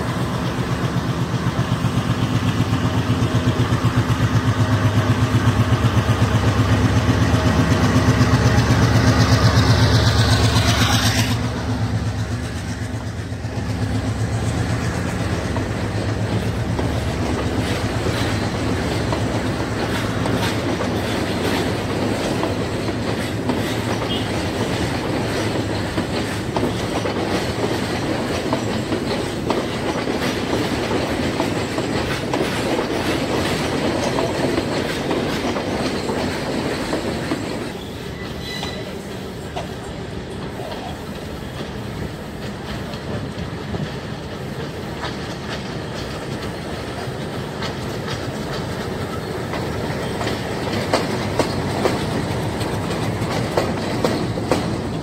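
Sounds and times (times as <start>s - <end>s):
diesel locomotive engine running: 0.0s - 55.0s
wheels clacking over rail joints: 0.0s - 55.0s.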